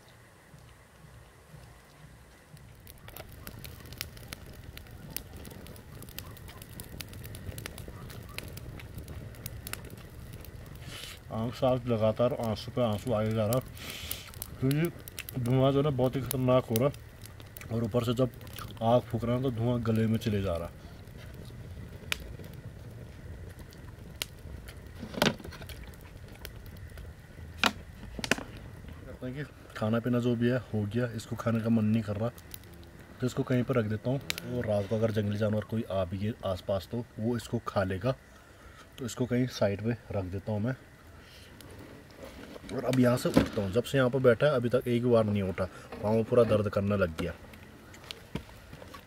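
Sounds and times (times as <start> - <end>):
campfire crackling and popping: 0.0 - 49.0
low steady fire rumble: 0.0 - 49.0.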